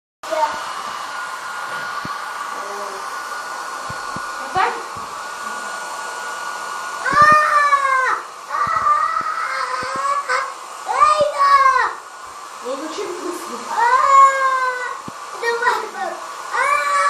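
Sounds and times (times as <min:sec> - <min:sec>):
hair dryer whining: 0:00.2 - 0:17.0.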